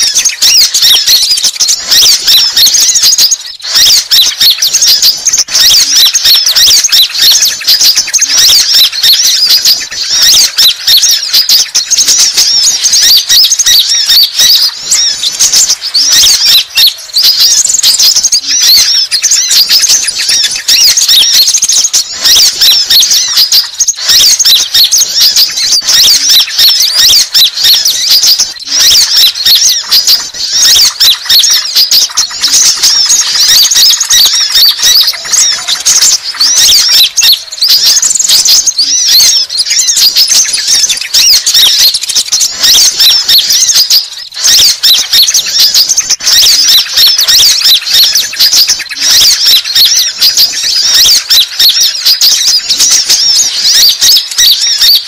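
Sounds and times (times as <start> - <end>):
sunbirds twittering: 0.0 - 55.0.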